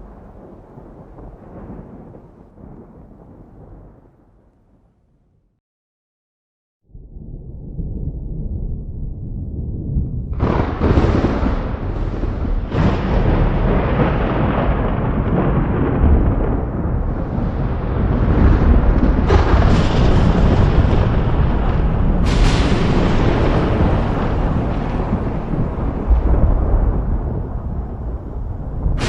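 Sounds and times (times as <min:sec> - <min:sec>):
thunder cracking and rumbling: 0:00.0 - 0:04.9, 0:06.9 - 0:29.0.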